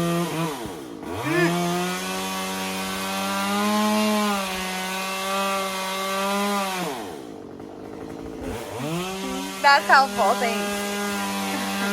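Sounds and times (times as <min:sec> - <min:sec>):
chainsaw engine at high revs: 0:00.0 - 0:11.9.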